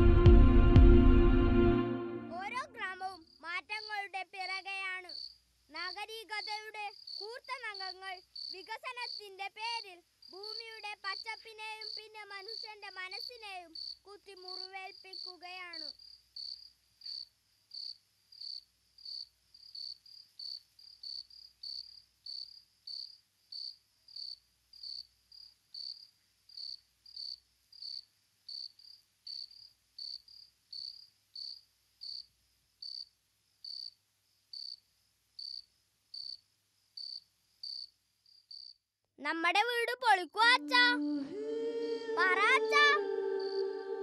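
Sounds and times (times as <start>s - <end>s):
cricket chirping: 2.4s - 38.8s, 42.3s - 44.0s.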